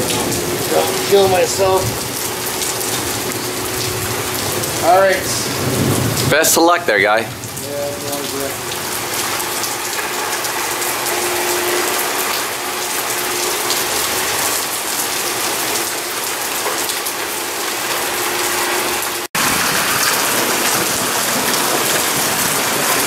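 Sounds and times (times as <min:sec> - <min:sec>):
heavy rain on pavement: 0:00.0 - 0:23.0.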